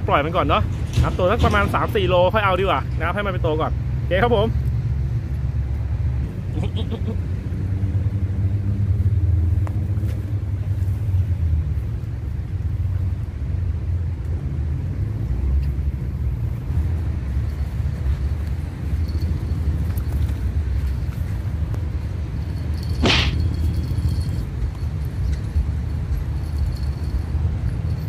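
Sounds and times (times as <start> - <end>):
engine hum: 0.0 - 28.0
road traffic rumble: 0.0 - 28.0.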